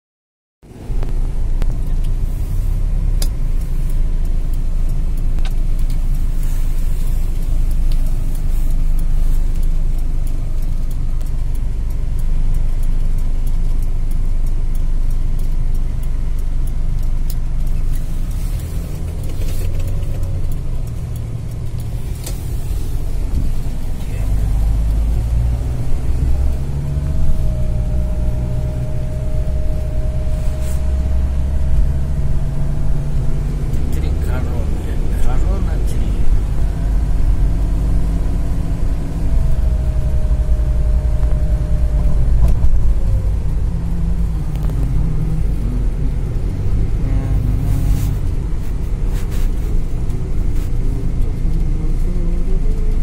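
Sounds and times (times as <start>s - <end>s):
car engine and road rumble: 0.6s - 53.0s
sharp clicks: 0.7s - 53.0s.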